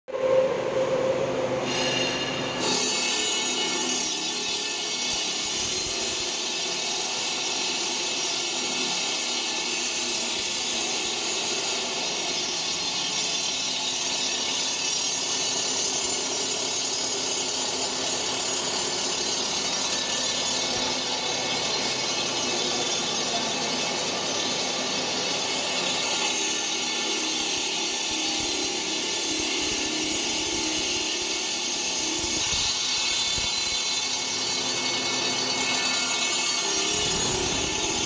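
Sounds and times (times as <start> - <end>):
concrete cutter grinding: 1.6 - 38.0.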